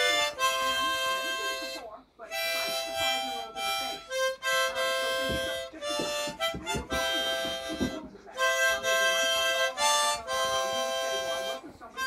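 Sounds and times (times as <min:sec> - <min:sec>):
harmonica playing slow tune: 0:00.0 - 0:12.0.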